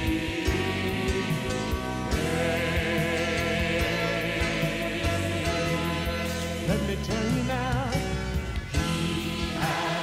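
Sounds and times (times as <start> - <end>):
voices singing: 0.0 - 7.9, 8.8 - 10.0
band playing worship music: 0.0 - 10.0.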